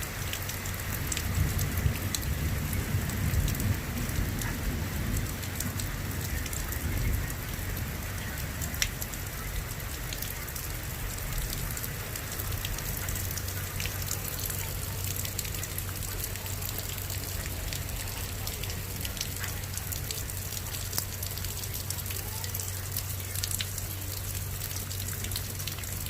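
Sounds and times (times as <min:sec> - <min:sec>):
rain drops ticking on a surface: 0:00.0 - 0:26.0.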